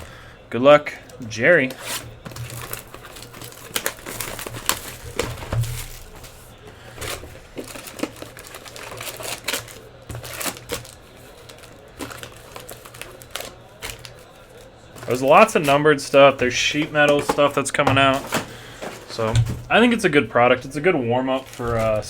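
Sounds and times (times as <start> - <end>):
wrappers crinkling: 0.9 - 22.0.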